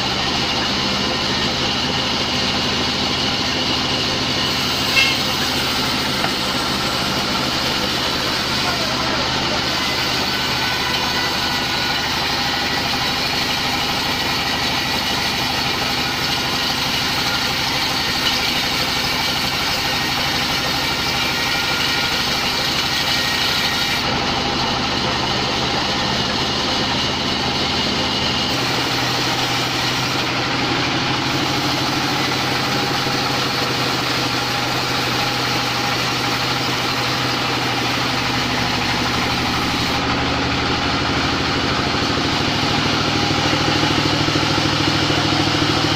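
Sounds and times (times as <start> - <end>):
band saw machinery drone: 0.0 - 45.9.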